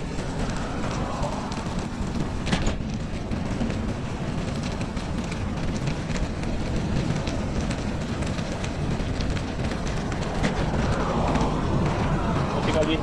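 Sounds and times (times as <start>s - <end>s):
tyres crackling over snow: 0.0s - 13.0s
wind and riding noise: 0.0s - 13.0s.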